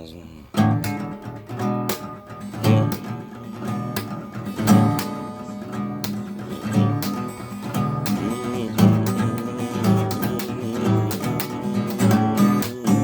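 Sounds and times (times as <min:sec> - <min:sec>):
acoustic guitar strumming: 0:00.5 - 0:13.0.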